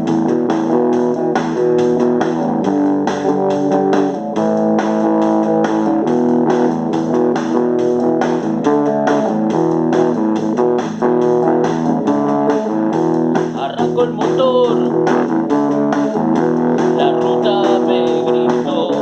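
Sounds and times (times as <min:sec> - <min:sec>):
bass guitar: 0:00.0 - 0:19.0
electric guitar: 0:00.0 - 0:19.0
steady drum beat: 0:00.0 - 0:19.0.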